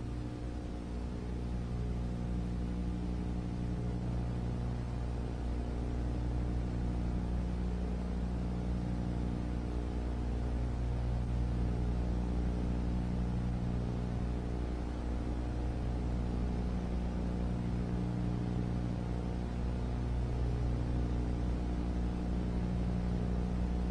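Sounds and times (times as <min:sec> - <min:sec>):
low droning hum: 0:00.0 - 0:23.9.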